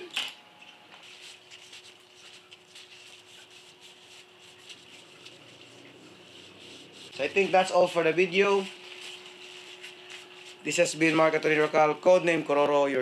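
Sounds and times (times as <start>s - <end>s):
faint steady hum: 0.0s - 13.0s
cloth wiping rustles: 1.0s - 12.6s.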